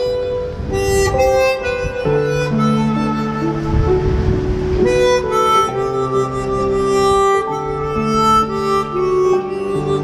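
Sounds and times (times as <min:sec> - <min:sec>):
instrumental melody over bass: 0:00.0 - 0:10.0.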